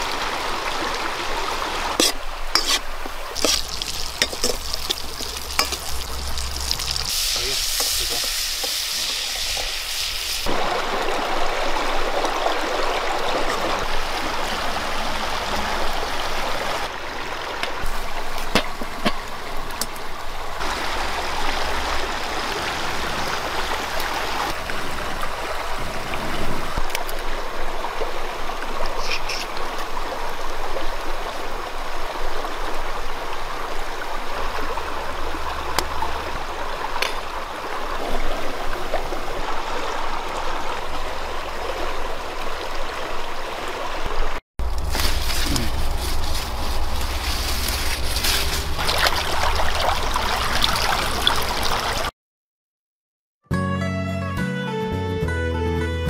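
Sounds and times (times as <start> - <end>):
stream rushing over rocks: 0.0 - 52.1.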